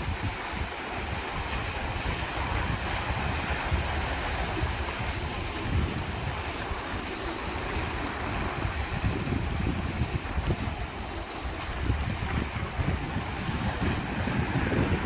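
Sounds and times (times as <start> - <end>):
sea waves washing in: 0.0 - 15.0
wind buffeting microphone: 0.0 - 15.0.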